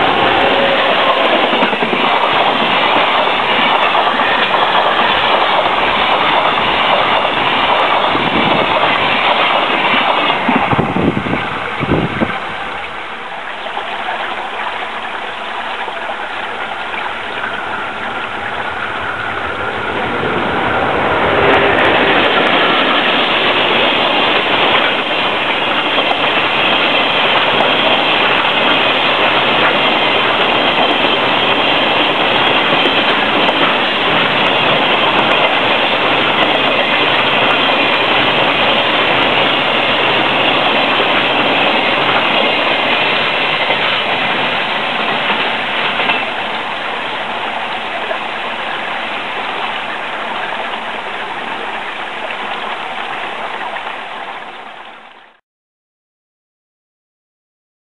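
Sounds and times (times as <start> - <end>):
freight train wheels on rails: 0.0 - 55.4.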